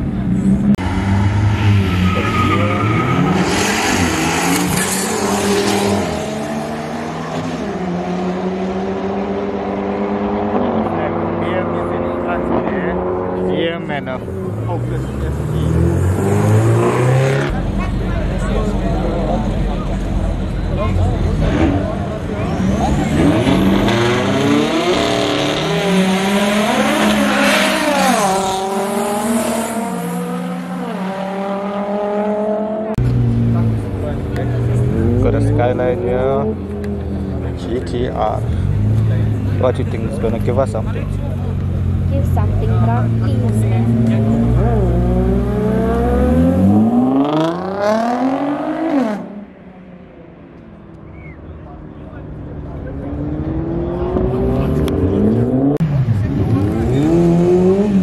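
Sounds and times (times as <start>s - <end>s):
race cars accelerating hard: 0.0s - 58.0s
engines running steadily: 4.0s - 58.0s.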